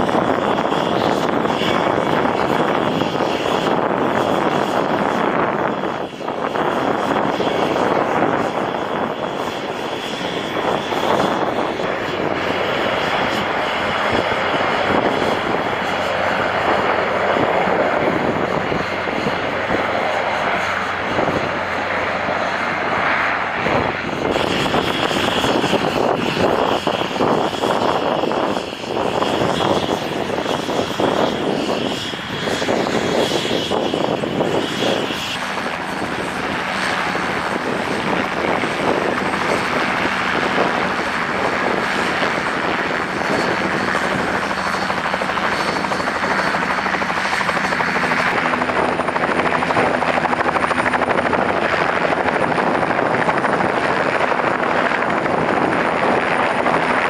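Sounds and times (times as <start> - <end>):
helicopter hovering: 0.0 - 57.0
helicopter rotor turning on ground: 0.0 - 57.0.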